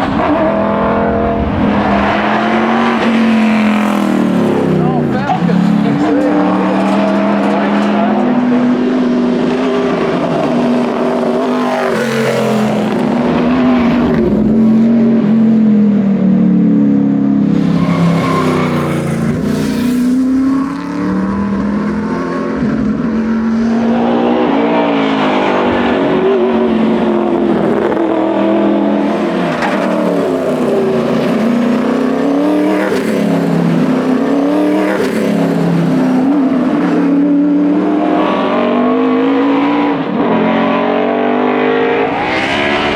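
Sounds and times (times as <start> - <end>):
racing car engine revving: 0.0 - 16.0, 17.4 - 42.9.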